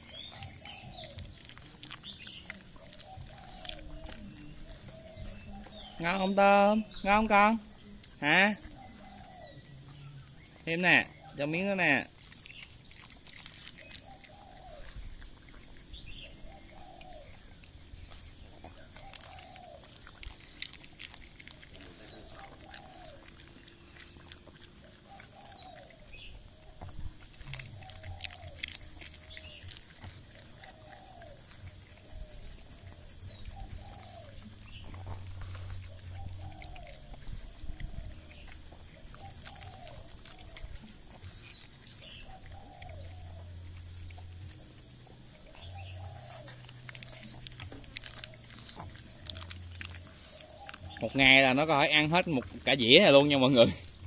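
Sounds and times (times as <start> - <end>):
dog chewing rice paper: 0.0 - 54.0
faint chirps: 0.0 - 54.0
high-pitched insect whine: 0.0 - 54.0.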